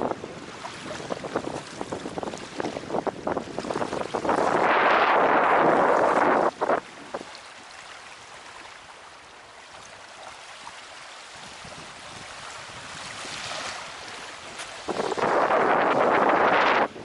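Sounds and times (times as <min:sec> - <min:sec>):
waves washing onto beach: 0:00.0 - 0:17.0.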